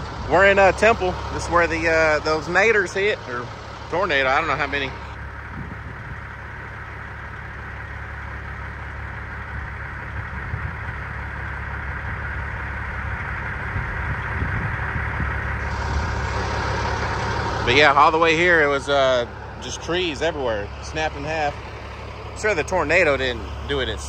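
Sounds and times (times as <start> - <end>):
truck diesel engine idling: 0.0 - 24.0.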